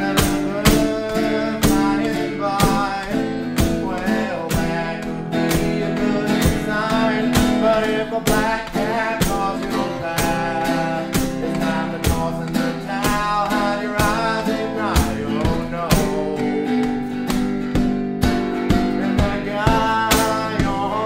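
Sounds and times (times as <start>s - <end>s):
man singing: 0.0s - 21.0s
strummed guitar: 0.0s - 21.0s.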